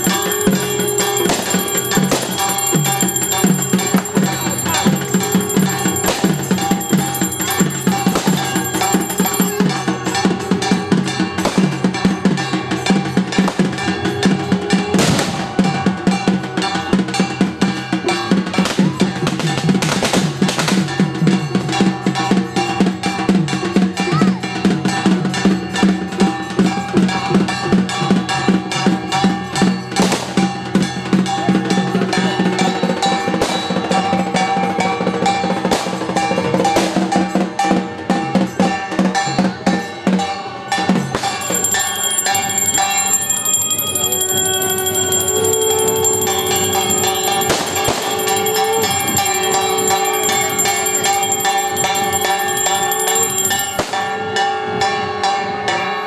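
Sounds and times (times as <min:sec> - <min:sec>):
loud fast drumming: 0:00.0 - 0:39.2, 0:40.9 - 0:54.1.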